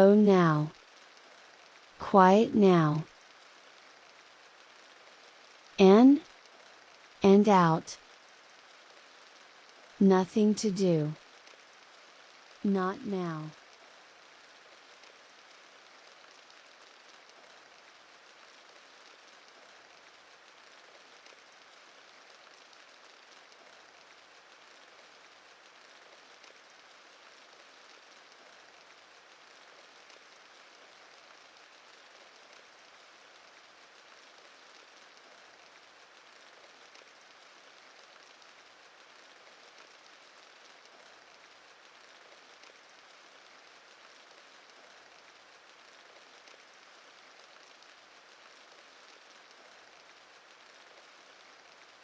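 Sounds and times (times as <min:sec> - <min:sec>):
rain pattering on window glass: 0:00.6 - 0:02.0, 0:03.0 - 0:07.2, 0:07.9 - 0:10.0, 0:11.1 - 0:12.7, 0:13.4 - 0:52.0.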